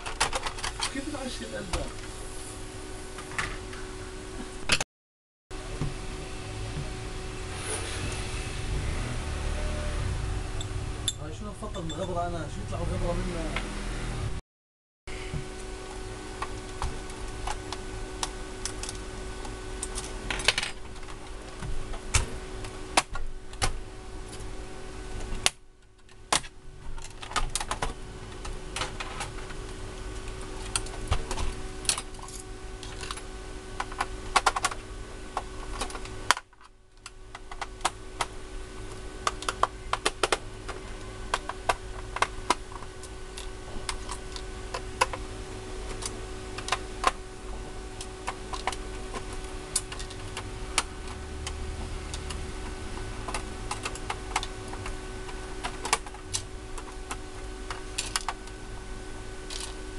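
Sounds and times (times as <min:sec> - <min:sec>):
steady low hum: 0:00.0 - 0:04.8, 0:05.5 - 0:14.4, 0:15.1 - 0:59.9.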